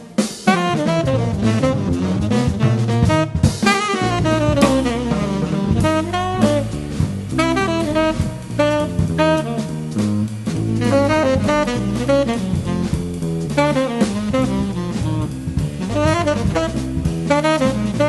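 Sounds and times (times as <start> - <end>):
drum kit: 0.0 - 18.0
electric bass: 0.0 - 18.0
saxophone melody: 0.0 - 18.0.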